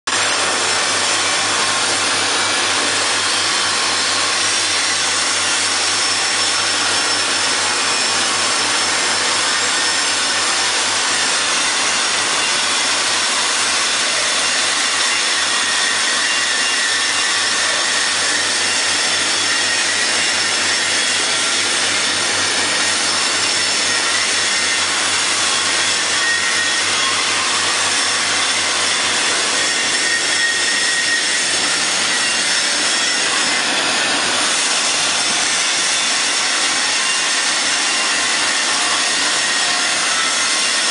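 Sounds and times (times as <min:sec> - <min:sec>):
welding machine hissing: 0:00.1 - 0:40.9.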